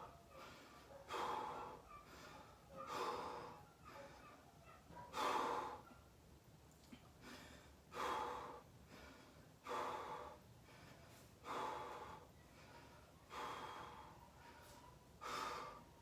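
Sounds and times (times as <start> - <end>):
person breathing hard: 0.0 - 4.3, 5.1 - 5.8, 6.9 - 16.0.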